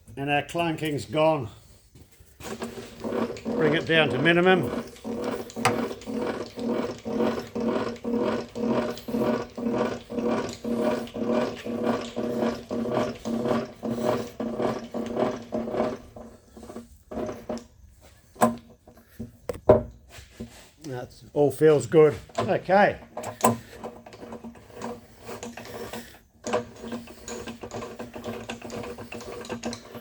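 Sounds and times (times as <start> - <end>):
hand-cranked mechanism grinding: 0.2 - 20.7, 21.3 - 30.0.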